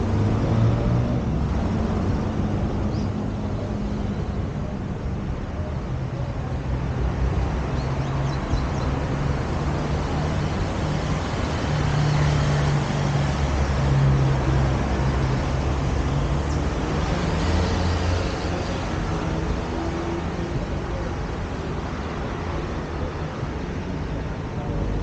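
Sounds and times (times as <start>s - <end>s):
road noise: 0.0s - 25.0s
vehicles passing: 0.0s - 25.0s.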